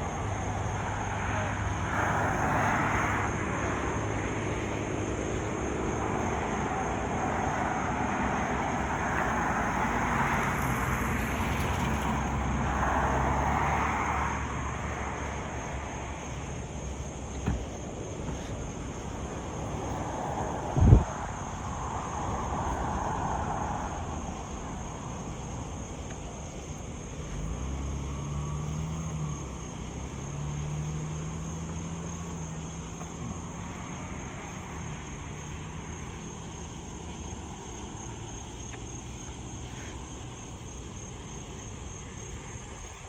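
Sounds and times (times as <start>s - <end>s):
highway traffic rushing: 0.0s - 43.0s
passing vehicle engine hum: 0.0s - 43.0s.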